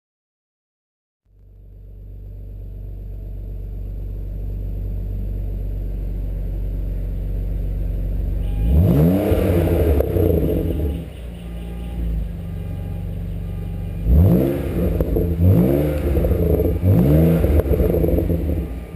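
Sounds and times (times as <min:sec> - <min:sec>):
car engine idling: 0:01.3 - 0:18.9
car engine revving: 0:01.6 - 0:18.9.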